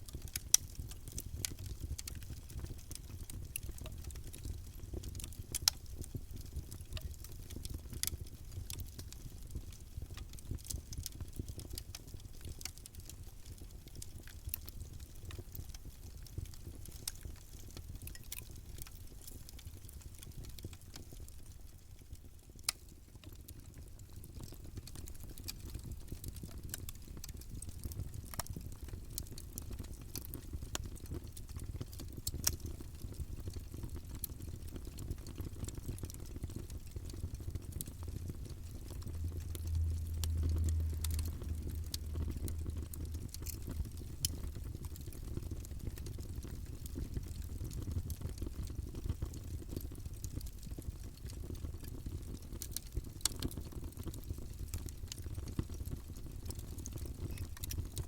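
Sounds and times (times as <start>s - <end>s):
low rumble of flame: 0.0s - 58.0s
wood crackling and popping: 0.0s - 58.0s.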